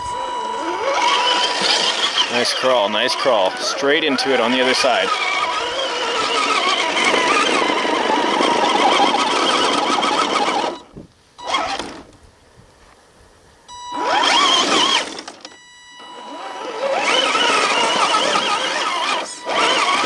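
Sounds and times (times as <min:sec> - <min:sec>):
electric motor and gearbox whine: 0:00.0 - 0:12.3, 0:13.7 - 0:20.0.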